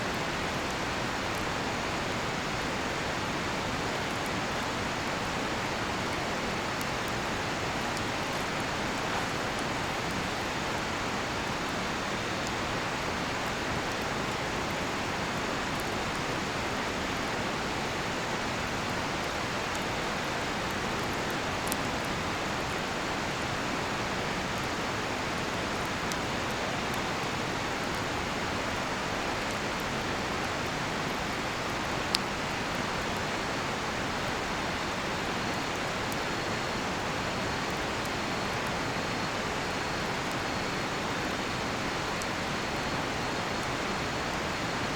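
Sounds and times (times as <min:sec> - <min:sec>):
river rushing: 0:00.1 - 0:44.9.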